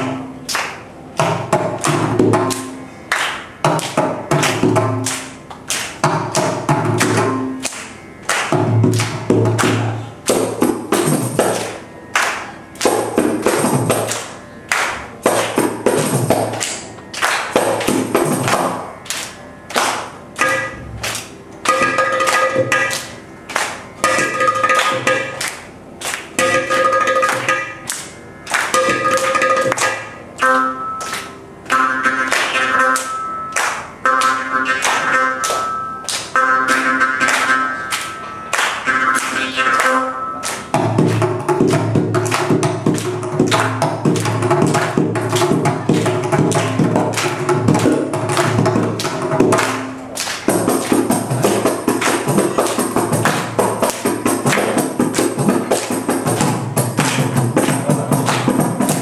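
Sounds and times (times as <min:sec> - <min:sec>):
percussion ensemble drumming: 0:01.2 - 0:02.8, 0:03.6 - 0:30.1, 0:38.5 - 0:59.0.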